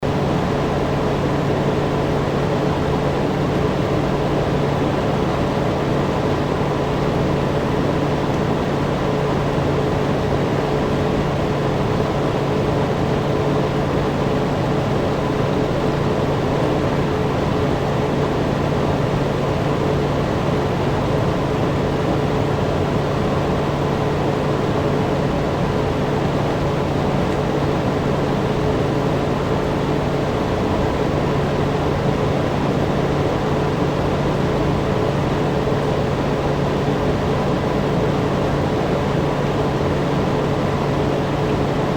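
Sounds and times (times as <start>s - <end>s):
electric fan running: 0.0s - 41.9s.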